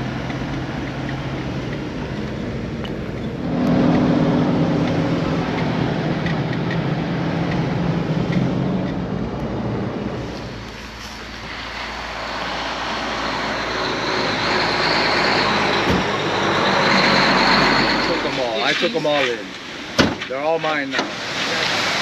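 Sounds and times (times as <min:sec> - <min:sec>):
road noise: 0:00.0 - 0:22.0
vehicle engine hum: 0:00.0 - 0:22.0
rush of noise: 0:01.3 - 0:22.0.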